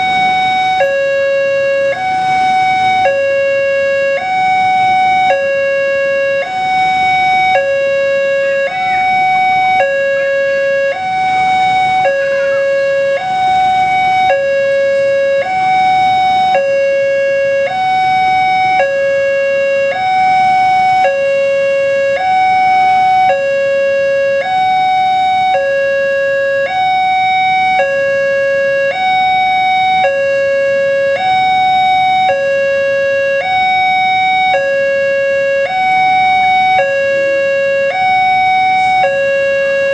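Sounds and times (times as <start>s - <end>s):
level crossing alarm two-tone: 0.0s - 39.9s.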